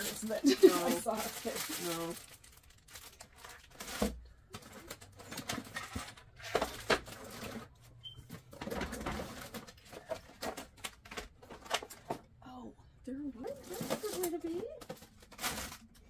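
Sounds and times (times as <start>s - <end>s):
plastic packages clicking and rustling: 0.0s - 12.3s, 13.4s - 16.0s.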